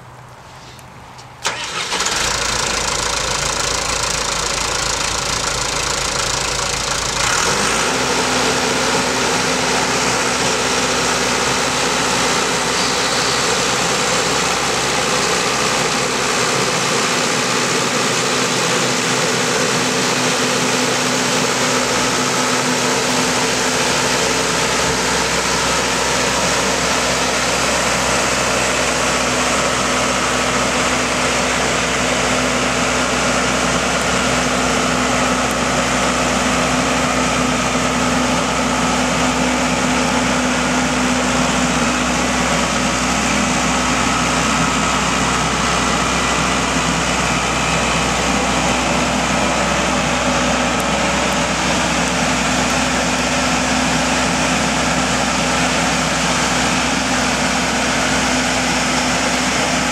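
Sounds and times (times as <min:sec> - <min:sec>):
diesel engine starting and running: 0:00.0 - 0:59.9.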